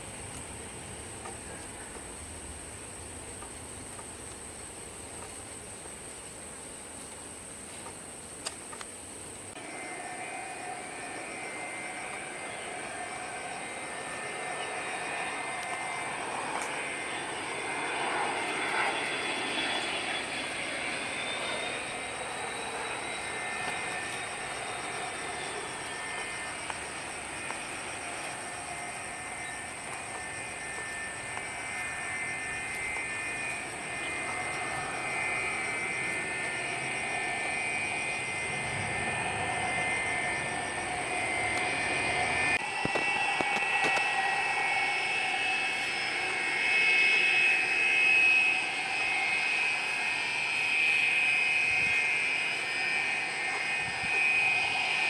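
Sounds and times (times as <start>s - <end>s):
jet taxiing engine whine: 0.0s - 55.0s
jet engines whining: 8.9s - 55.0s.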